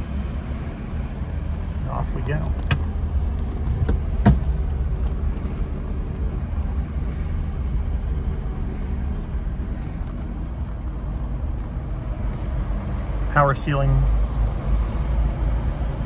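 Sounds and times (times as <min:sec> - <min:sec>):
car engine low rumble: 0:00.0 - 0:16.0.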